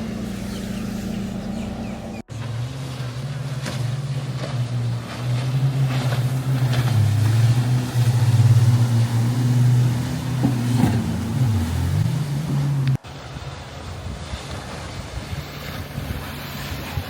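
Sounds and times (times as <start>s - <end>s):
motorboat engine drone: 0.0s - 17.0s.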